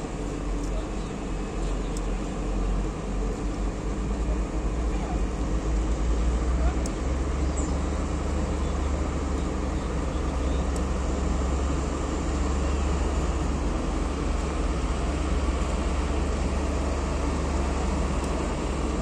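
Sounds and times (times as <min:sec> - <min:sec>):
diesel engines idling: 0:00.0 - 0:19.0.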